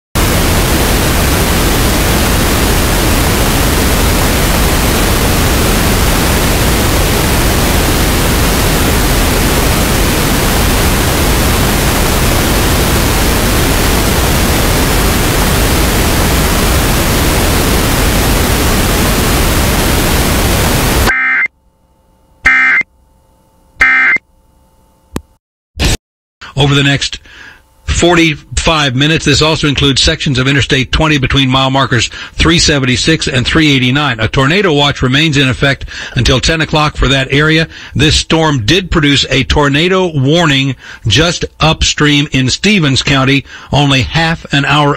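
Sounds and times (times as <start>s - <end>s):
loud static hiss: 0.2s - 21.5s, 25.8s - 44.9s.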